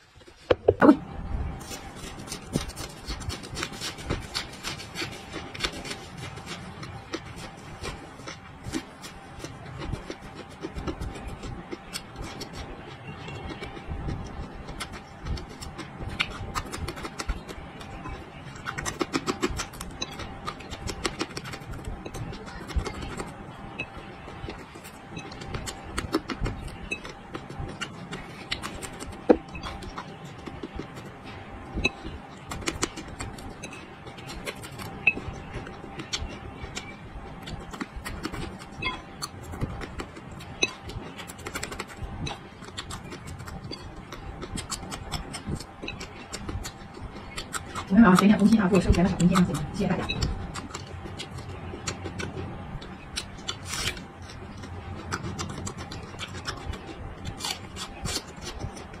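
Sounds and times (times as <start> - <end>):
chewing crisp crunches: 1.6 - 59.0.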